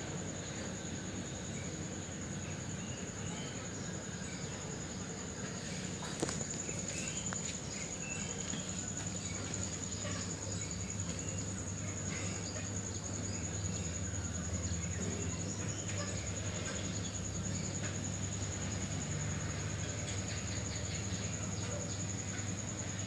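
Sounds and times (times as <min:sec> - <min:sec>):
high-pitched insect trill: 0:00.0 - 0:23.0.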